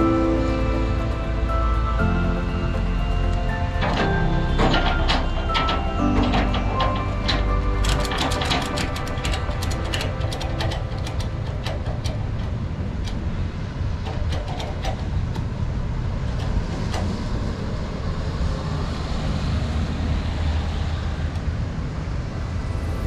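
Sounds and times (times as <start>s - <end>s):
low rumble of vehicle noise: 0.0s - 23.0s.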